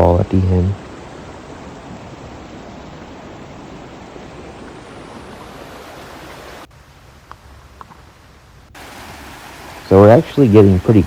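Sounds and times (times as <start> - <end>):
creek water rushing over rocks: 0.0 - 6.7, 8.8 - 11.0.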